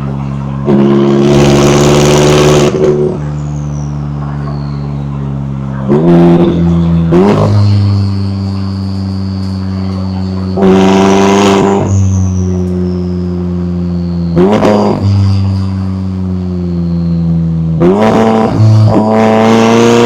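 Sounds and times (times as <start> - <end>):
car exhaust revving: 0.0 - 20.0
faint high whine: 0.0 - 20.0.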